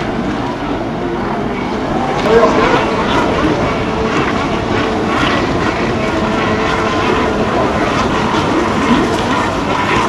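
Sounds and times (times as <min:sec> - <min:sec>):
jet ski engines droning: 0:00.0 - 0:10.0
rushing water noise: 0:00.0 - 0:10.0.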